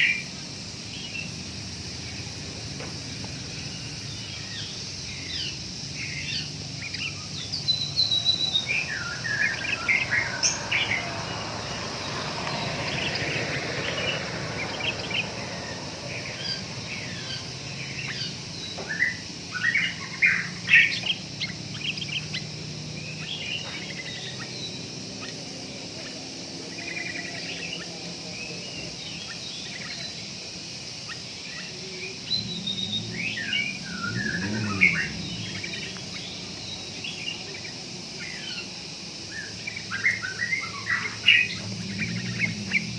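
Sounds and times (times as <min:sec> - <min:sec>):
bulbuls chirping: 0:00.0 - 0:42.9
steady high hiss: 0:00.0 - 0:42.9.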